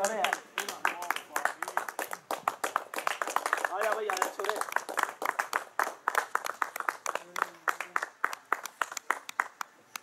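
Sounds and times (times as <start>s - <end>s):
people clapping: 0.0s - 10.0s.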